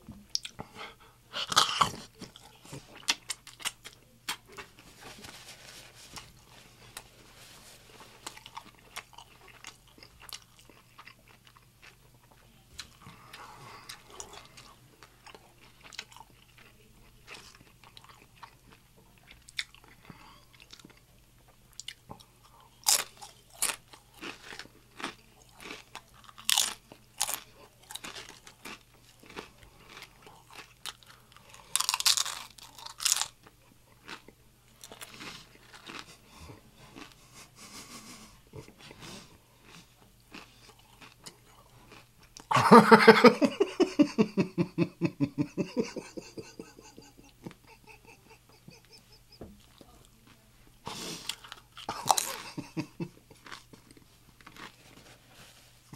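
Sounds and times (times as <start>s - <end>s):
soft chewing: 0.0s - 42.5s, 45.2s - 55.9s.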